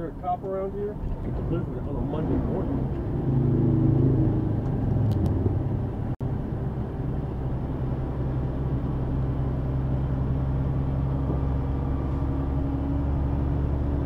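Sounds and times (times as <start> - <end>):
road noise inside vehicle: 0.0 - 14.0
vehicle engine drone: 0.0 - 14.0.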